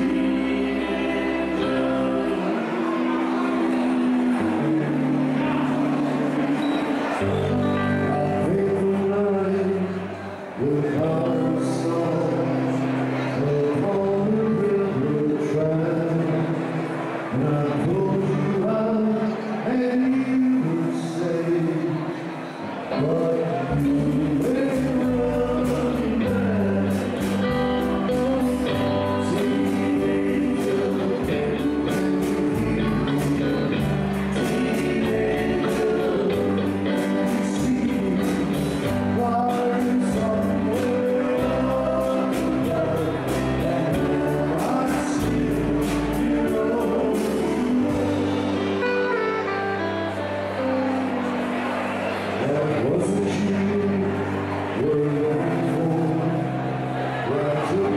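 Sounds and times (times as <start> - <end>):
person singing: 0.0 - 57.9
rhythm and blues band playing: 0.0 - 57.9.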